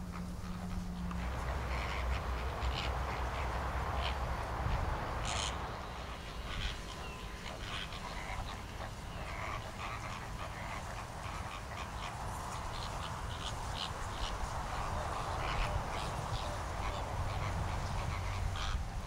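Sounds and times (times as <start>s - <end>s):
steady low rumble: 0.0s - 19.0s
waterbirds calling: 0.0s - 19.0s.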